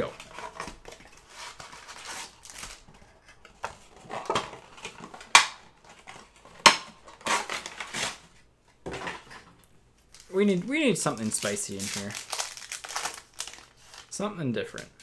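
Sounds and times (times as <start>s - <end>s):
card packs tearing and crinkling: 0.0s - 2.9s, 3.9s - 8.2s, 10.1s - 15.0s.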